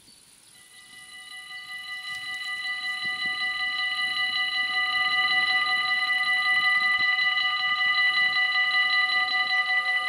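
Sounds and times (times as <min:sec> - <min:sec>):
level crossing bells ringing: 0:00.6 - 0:10.0.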